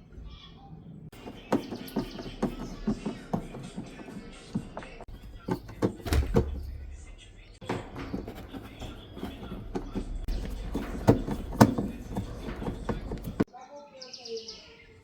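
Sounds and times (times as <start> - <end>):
washing machine spin rumble: 0.0 - 13.5
washing machine knocking: 1.1 - 13.5.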